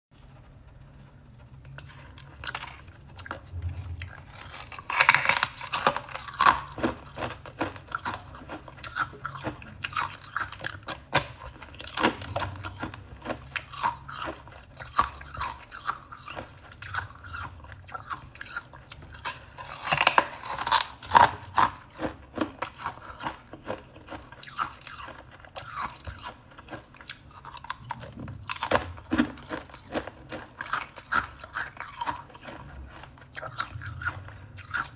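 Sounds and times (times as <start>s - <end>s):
crunching and chewing crackers: 0.3s - 34.9s.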